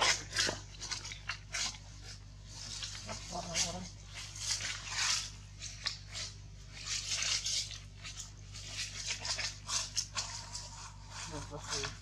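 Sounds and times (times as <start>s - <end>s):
dry leaves rustling and crunching: 0.0s - 12.0s.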